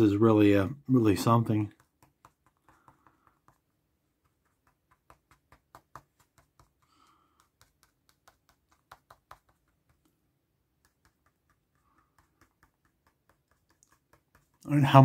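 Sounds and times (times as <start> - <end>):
pen tip tapping on paper: 1.7 - 10.1, 10.8 - 14.6.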